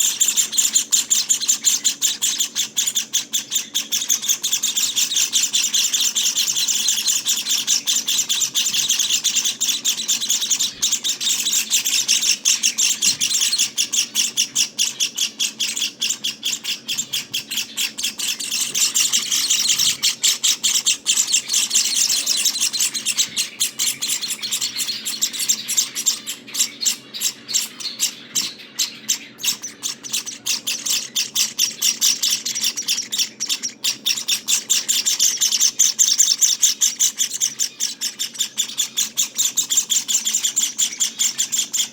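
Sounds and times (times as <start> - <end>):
finch nestlings chirping: 0.0 - 41.9.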